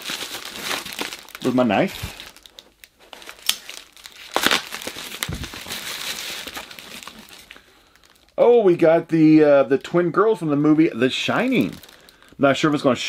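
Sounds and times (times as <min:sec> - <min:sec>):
bubble wrap crinkling and crackling: 0:00.0 - 0:12.9.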